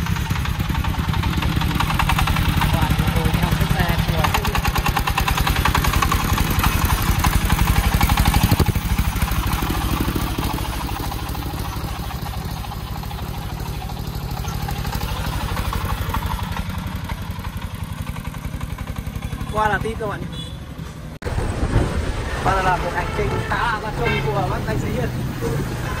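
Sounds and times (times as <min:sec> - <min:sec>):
diesel engine chugging: 0:00.0 - 0:26.0.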